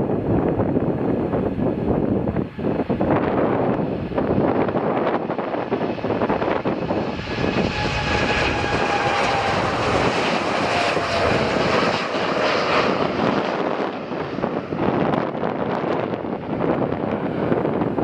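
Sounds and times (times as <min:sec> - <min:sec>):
jet airliner passing by: 0:00.0 - 0:18.0.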